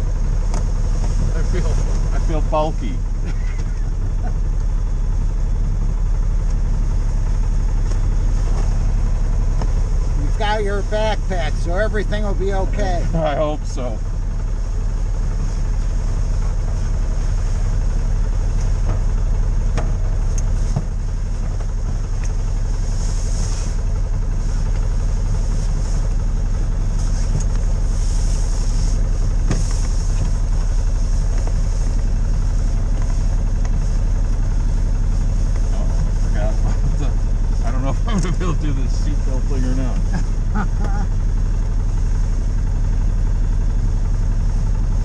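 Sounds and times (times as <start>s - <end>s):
utility vehicle engine idling: 0.0s - 45.0s.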